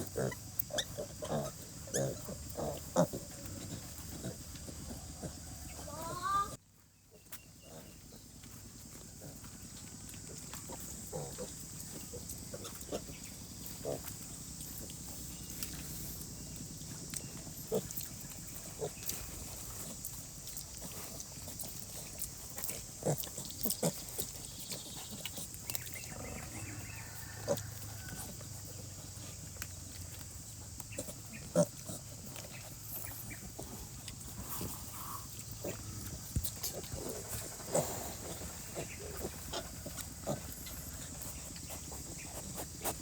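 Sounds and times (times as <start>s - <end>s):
pigs grunting softly: 0.0s - 6.5s, 7.1s - 43.0s.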